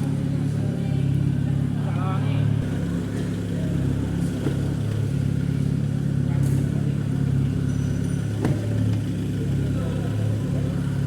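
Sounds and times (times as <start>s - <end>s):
diesel engine idling: 0.1s - 11.0s.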